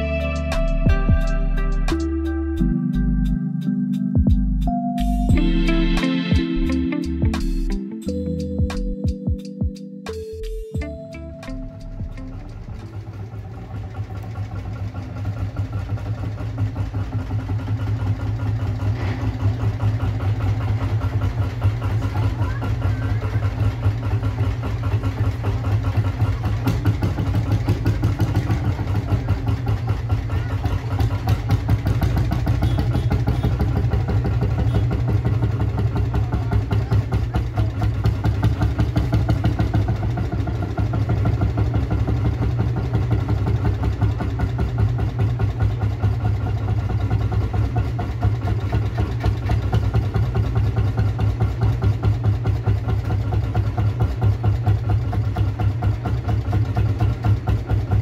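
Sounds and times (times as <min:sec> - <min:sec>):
tractor engine pulsing: 0:10.1 - 0:58.0.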